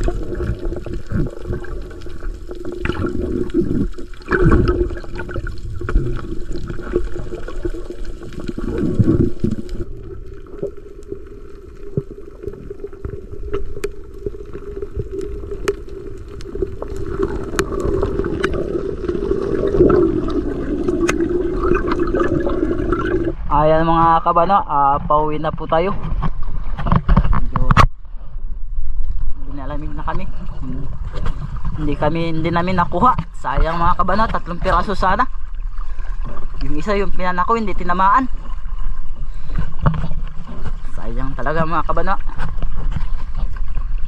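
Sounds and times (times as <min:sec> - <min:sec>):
muffled underwater rushing and gurgling: 0:00.0 - 0:44.0.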